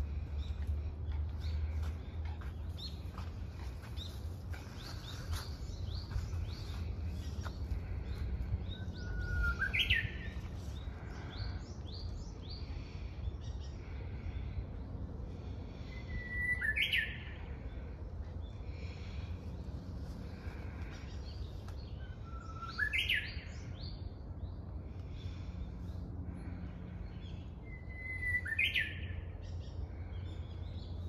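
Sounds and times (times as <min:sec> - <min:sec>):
bush warbler singing: 0:00.0 - 0:14.5, 0:15.4 - 0:31.0
small birds chirping: 0:00.0 - 0:31.0.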